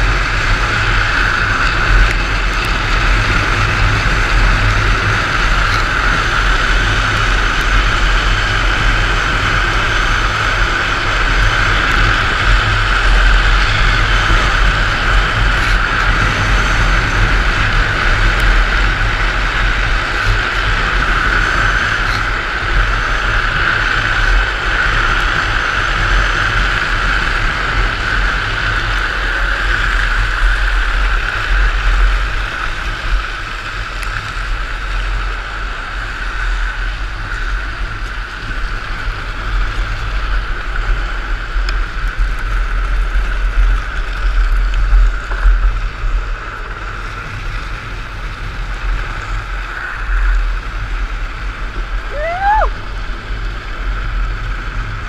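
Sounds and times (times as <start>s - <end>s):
low rumble: 0.0s - 55.0s
wheels sliding on asphalt: 0.0s - 55.0s
wind rushing over microphone: 0.0s - 55.0s.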